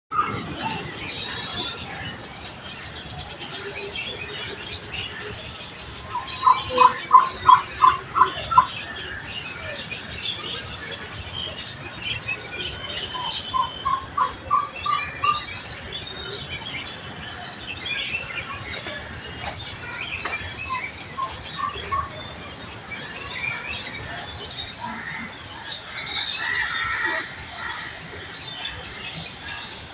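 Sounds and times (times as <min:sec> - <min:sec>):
birds chirping: 0:00.1 - 0:29.9
loud repeated bird notes: 0:00.1 - 0:29.9.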